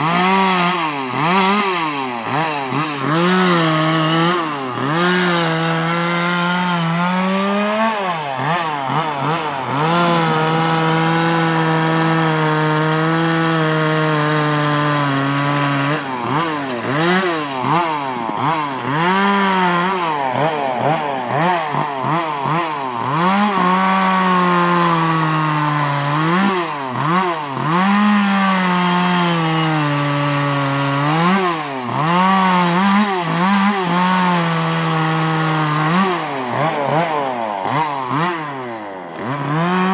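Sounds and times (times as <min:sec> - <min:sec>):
chainsaw cutting wood revving: 0:00.0 - 0:39.9.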